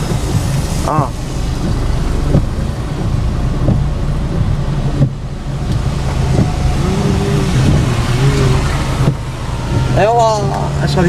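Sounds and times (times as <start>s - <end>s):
car engine hum: 0.0s - 11.0s
road and rain noise: 0.0s - 11.0s
windscreen wipers knocking: 0.0s - 11.0s.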